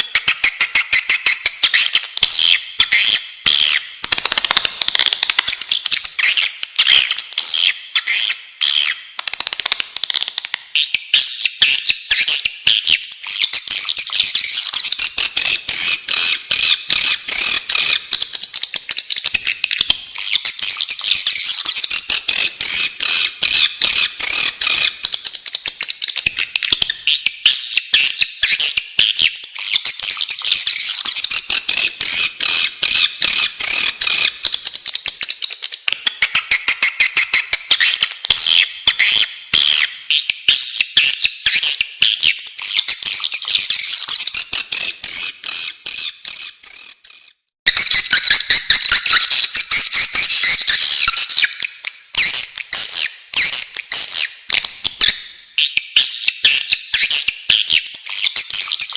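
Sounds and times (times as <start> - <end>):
swiftlets chirping and twittering: 0.0 - 9.2, 10.7 - 58.9.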